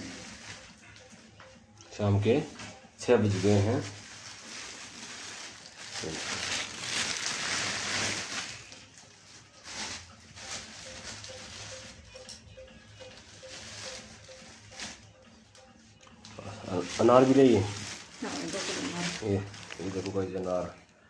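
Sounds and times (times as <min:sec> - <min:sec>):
plastic bag rustling: 0:00.0 - 0:01.1, 0:02.2 - 0:12.4, 0:13.0 - 0:15.2, 0:16.3 - 0:20.8.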